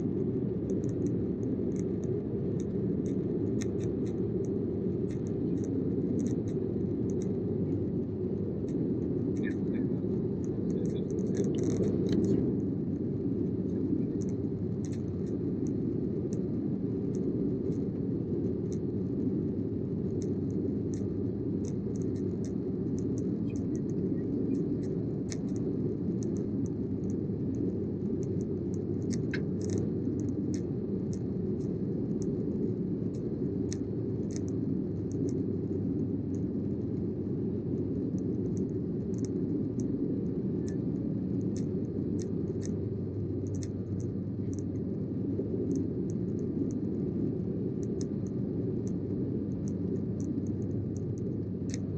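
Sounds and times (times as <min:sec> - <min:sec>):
airplane cabin engine noise: 0:00.0 - 0:51.9
light clicks: 0:00.7 - 0:07.9, 0:08.7 - 0:12.7, 0:13.5 - 0:16.5, 0:20.0 - 0:37.0, 0:38.1 - 0:39.9, 0:40.6 - 0:46.8, 0:47.8 - 0:51.9.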